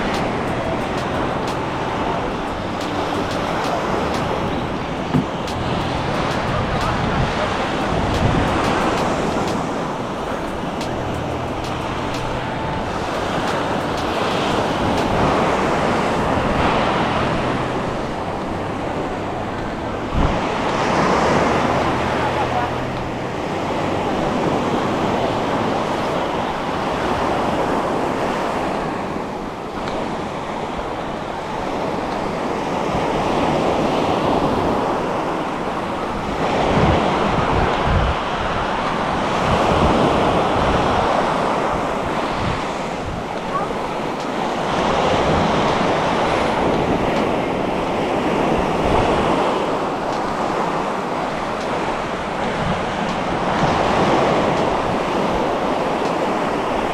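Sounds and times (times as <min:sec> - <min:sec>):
waves breaking on beach: 0:00.0 - 0:56.9.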